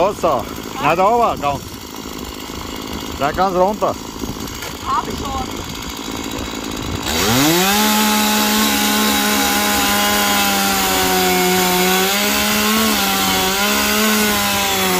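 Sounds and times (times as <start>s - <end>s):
chainsaw revving: 0.0s - 14.9s.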